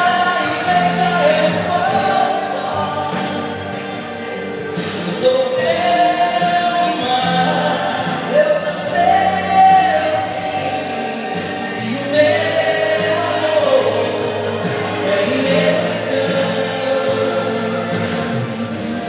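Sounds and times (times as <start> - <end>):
song with long sung notes: 0.0 - 19.0.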